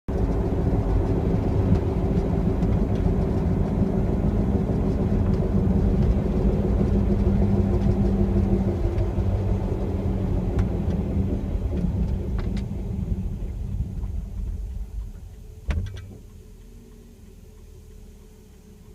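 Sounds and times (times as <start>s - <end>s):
car driving low rumble: 0.1s - 18.9s.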